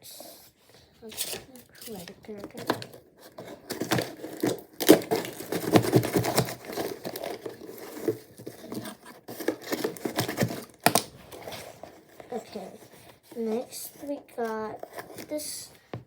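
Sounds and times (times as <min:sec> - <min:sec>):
paper crinkling and rustling: 0:01.0 - 0:16.0.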